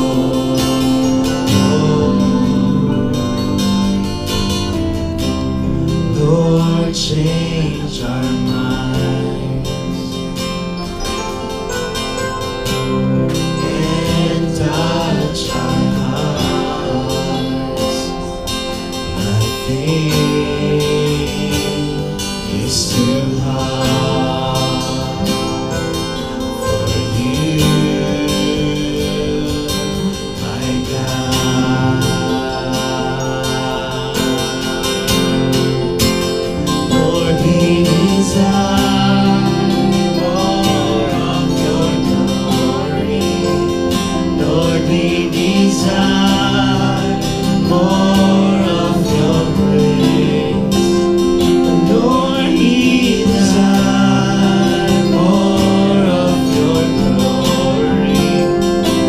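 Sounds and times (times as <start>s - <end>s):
gospel voices singing: 0.0s - 59.0s
instrumental accompaniment with bass: 0.0s - 59.0s.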